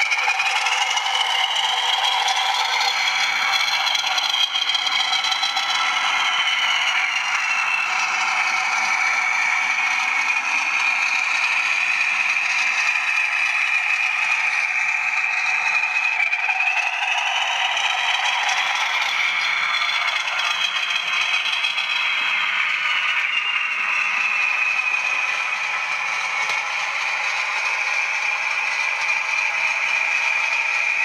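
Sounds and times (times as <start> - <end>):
high motor whine: 0.0 - 31.0
model train rattling on track: 0.0 - 31.0.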